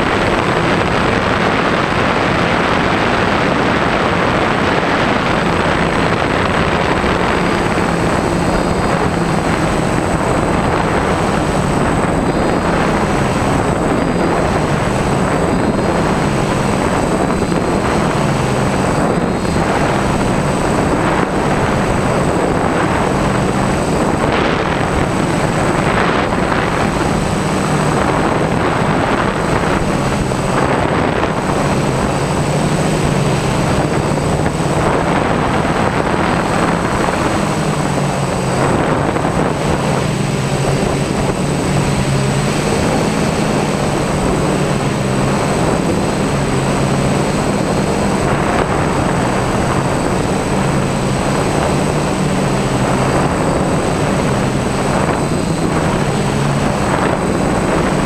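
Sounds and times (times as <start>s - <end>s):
drone motors and propellers droning: 0.0s - 58.0s
thin high whine: 0.0s - 58.0s
wind on microphone: 0.0s - 58.0s.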